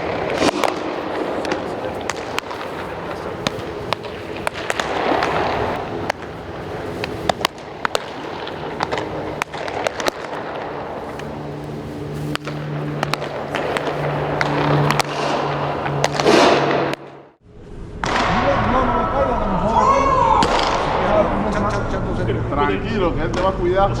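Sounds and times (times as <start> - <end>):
low hum: 0.0 - 19.9.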